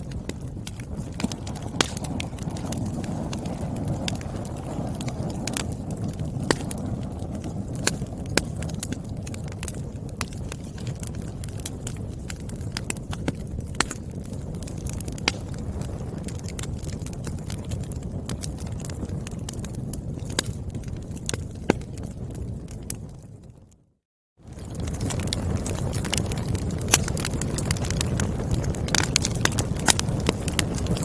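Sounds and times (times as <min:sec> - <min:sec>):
flames rushing: 0:00.0 - 0:23.5, 0:24.4 - 0:31.0
firewood popping and crackling: 0:00.0 - 0:23.8, 0:24.4 - 0:31.0.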